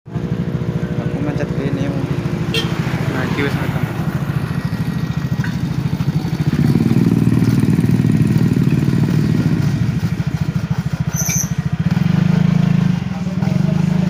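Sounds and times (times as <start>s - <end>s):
motorcycle engine running: 0.1s - 14.0s.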